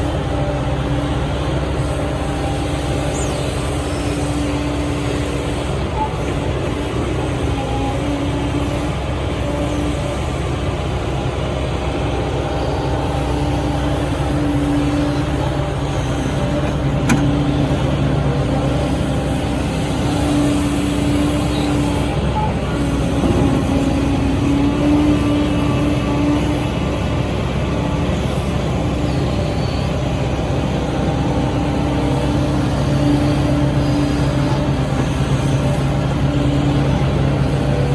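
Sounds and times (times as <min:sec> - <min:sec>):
excavator diesel engine running: 0:00.0 - 0:37.9
hydraulic whine: 0:00.0 - 0:37.9.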